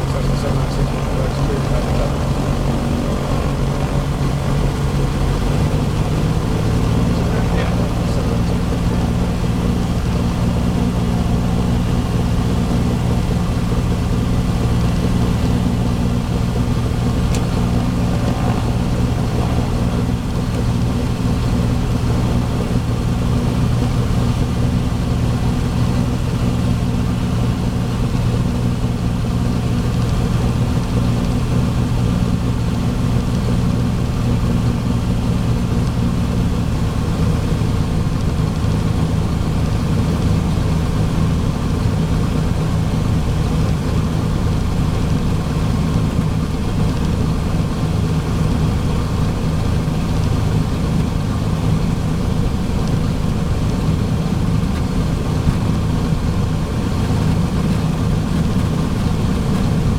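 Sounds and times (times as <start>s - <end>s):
airplane engine and propeller hum: 0.0s - 59.9s.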